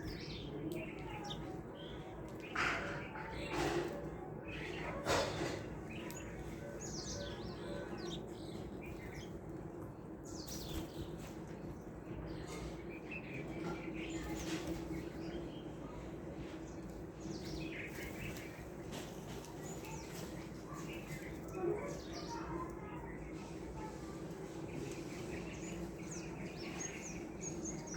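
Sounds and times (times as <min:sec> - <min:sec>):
small birds chirping: 0:00.0 - 0:27.9
steady background noise: 0:00.0 - 0:27.9.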